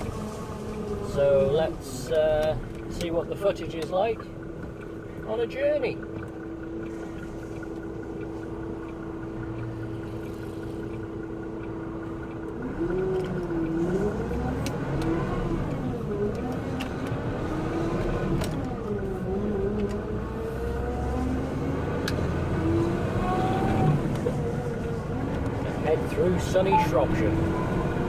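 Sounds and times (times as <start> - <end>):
truck engine idling and accelerating: 0.0 - 28.0.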